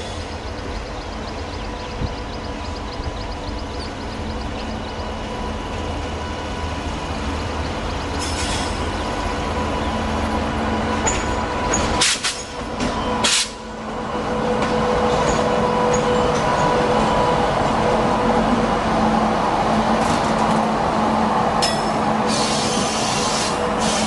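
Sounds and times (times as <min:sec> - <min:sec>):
electric locomotive running: 0:00.0 - 0:24.0.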